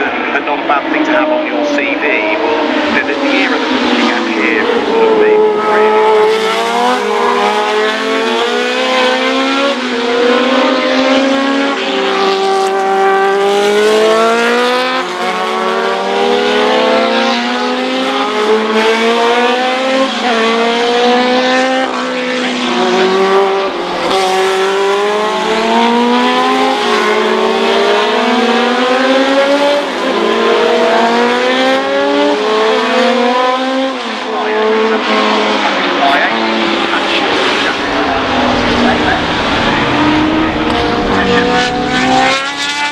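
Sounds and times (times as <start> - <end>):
race car engines accelerating: 0.0 - 42.9.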